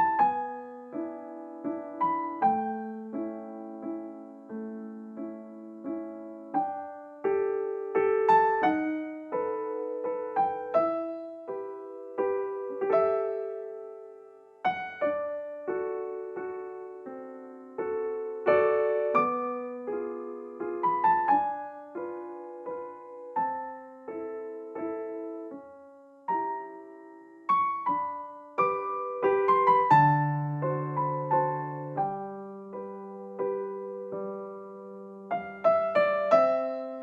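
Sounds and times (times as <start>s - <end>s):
slow gentle piano music: 0.0s - 37.0s.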